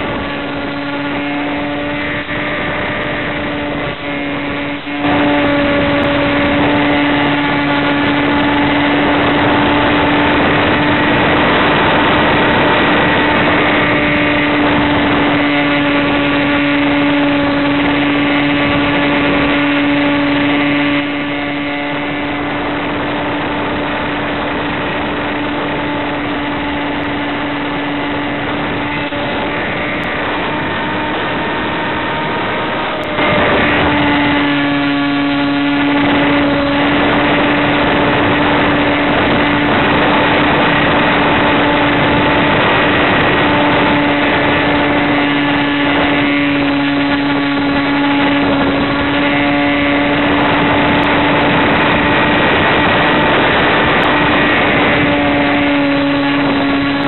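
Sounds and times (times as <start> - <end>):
model plane propeller droning: 0.0 - 57.0
steady hum: 0.0 - 57.0.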